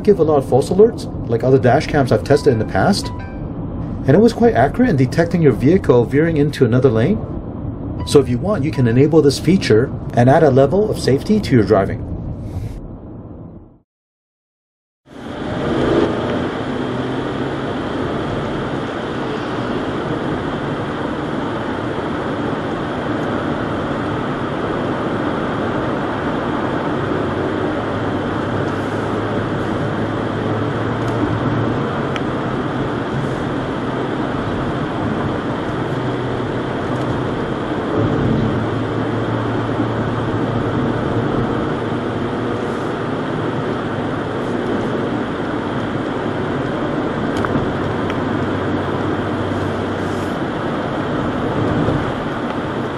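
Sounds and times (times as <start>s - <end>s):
van engine and tyre noise: 0.0s - 13.8s, 15.0s - 52.9s.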